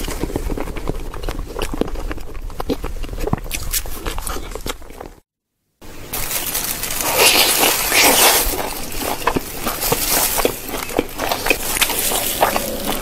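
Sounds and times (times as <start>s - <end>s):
chewing with sharp crackles: 0.0s - 5.2s, 6.2s - 13.0s
crunching fried chicken: 0.0s - 5.2s, 6.0s - 13.0s.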